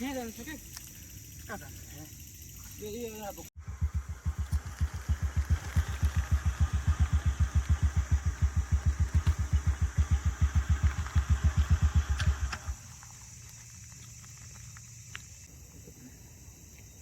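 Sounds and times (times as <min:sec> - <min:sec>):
small engine idling: 0:00.0 - 0:15.5.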